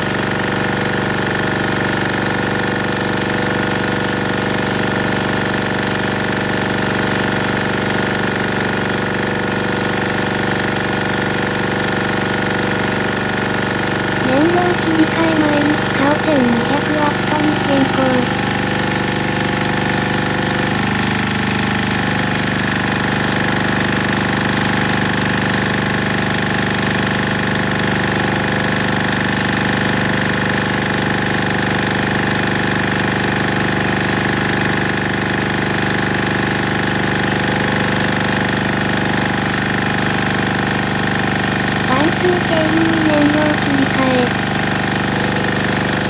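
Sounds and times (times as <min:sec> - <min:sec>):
diesel generator running: 0:00.0 - 0:46.0.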